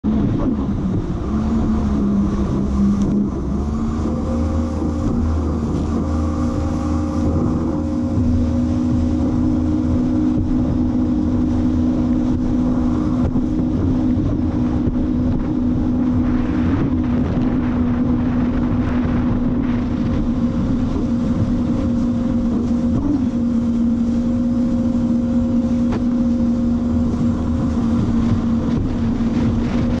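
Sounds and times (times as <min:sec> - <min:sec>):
jet ski engine running: 0:00.0 - 0:30.0
rushing water: 0:00.0 - 0:30.0
wind noise: 0:00.0 - 0:30.0.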